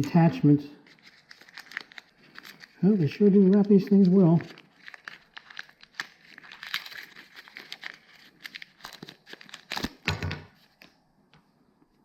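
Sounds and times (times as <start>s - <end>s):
plastic packaging crinkling: 0.8s - 11.0s.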